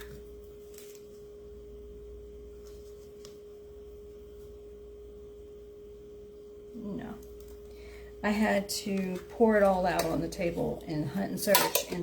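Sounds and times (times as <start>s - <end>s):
faint low hum: 0.0s - 12.0s
pure humming tone: 0.0s - 12.0s.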